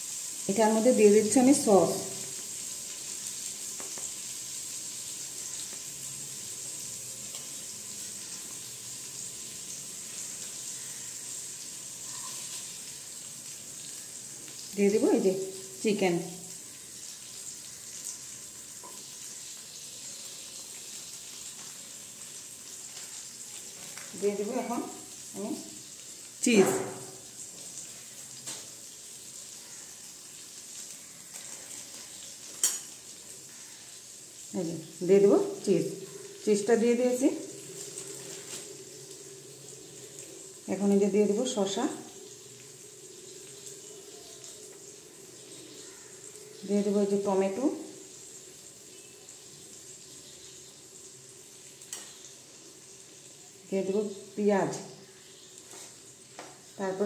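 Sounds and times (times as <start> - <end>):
oil sizzling in a frying pan: 0.0 - 57.0.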